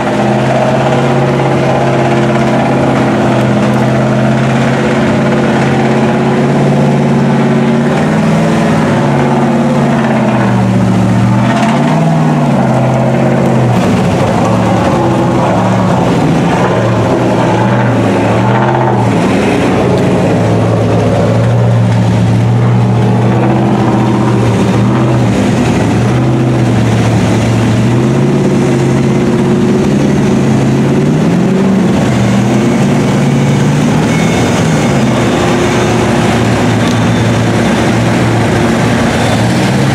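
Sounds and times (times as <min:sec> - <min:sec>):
truck engines running: 0:00.0 - 0:39.9.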